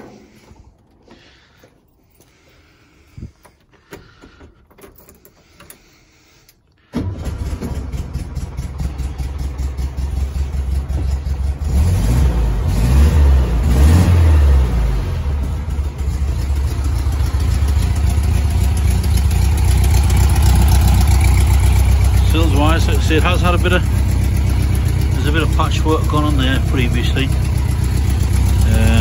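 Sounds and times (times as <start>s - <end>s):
car engine starting and running: 0.0s - 29.0s.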